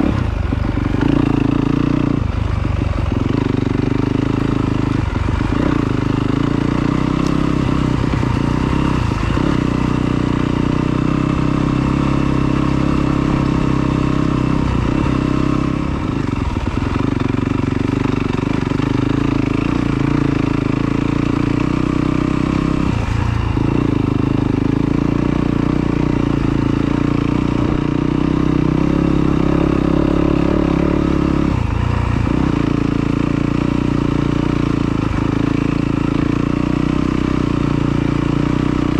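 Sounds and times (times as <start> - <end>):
two-stroke dirt bike engine: 0.0 - 38.9.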